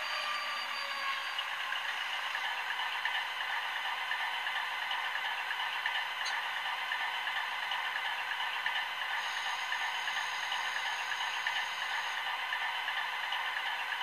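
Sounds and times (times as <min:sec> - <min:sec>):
tinny diesel engine idling sound: 0:00.0 - 0:14.0.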